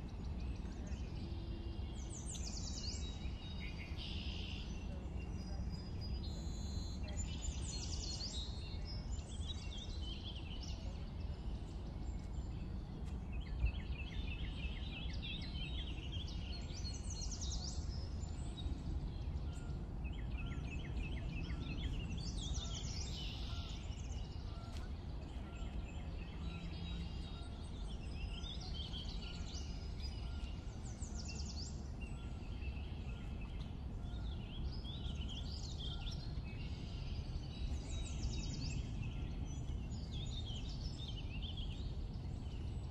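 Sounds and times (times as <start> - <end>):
low background rumble: 0.0 - 42.9.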